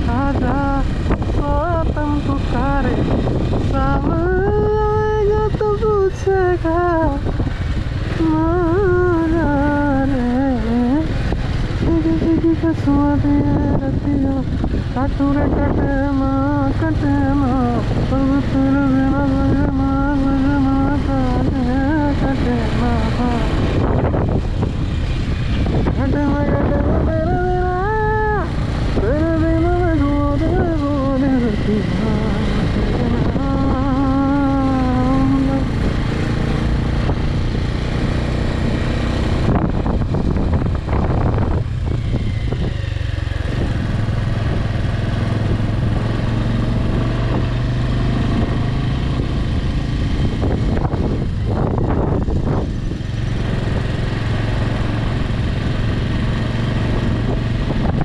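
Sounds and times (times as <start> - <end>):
low vehicle rumble: 0.0 - 58.0.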